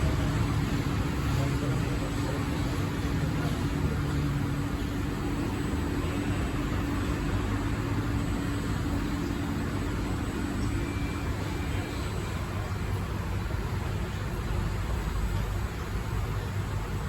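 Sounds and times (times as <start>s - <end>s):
ventilation hum and hiss: 0.0s - 17.0s.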